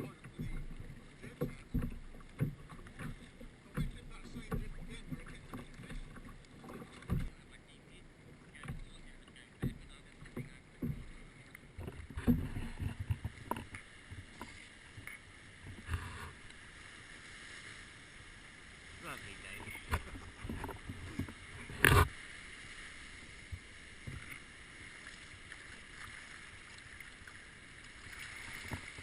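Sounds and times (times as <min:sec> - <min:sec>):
water knocking and splashing on hull: 0:00.0 - 0:29.0.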